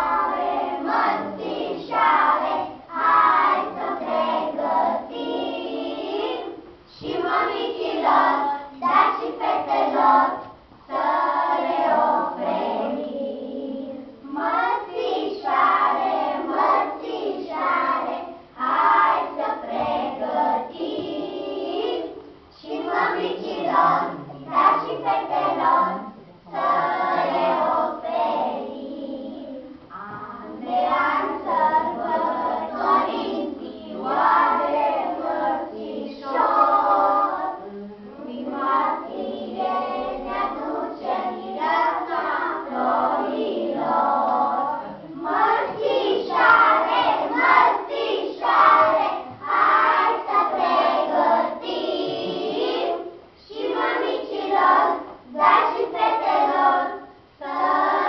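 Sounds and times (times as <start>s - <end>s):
children singing in chorus: 0.0s - 58.0s.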